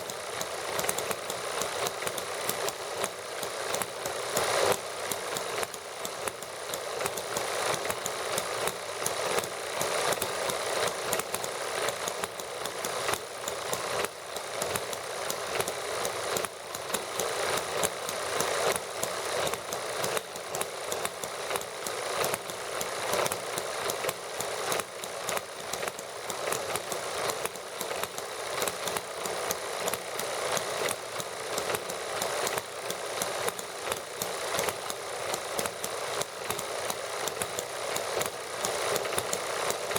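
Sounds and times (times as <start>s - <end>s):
model engines running: 0.0s - 39.9s.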